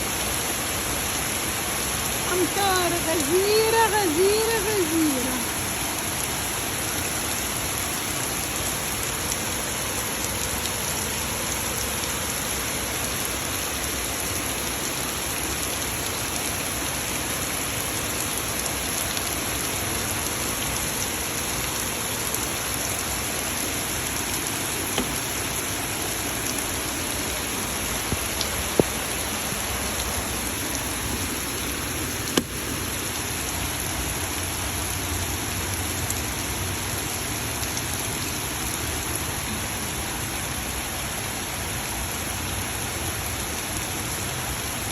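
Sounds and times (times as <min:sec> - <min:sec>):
heavy rain hiss: 0:00.0 - 0:44.9.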